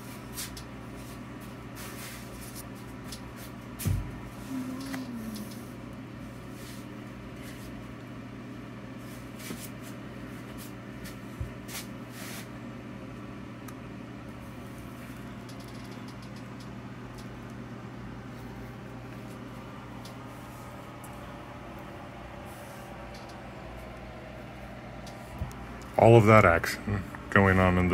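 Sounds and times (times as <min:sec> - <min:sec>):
low electrical hum: 0:00.0 - 0:27.9.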